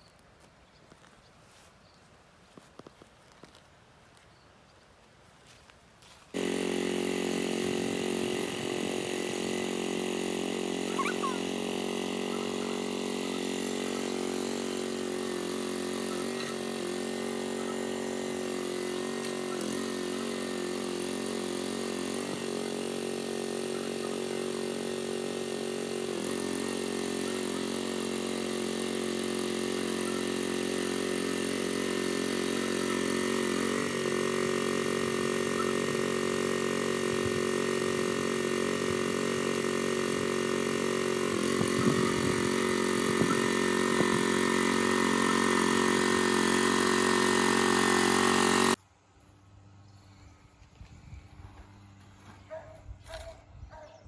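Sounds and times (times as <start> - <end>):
small engine running: 6.0 - 53.9.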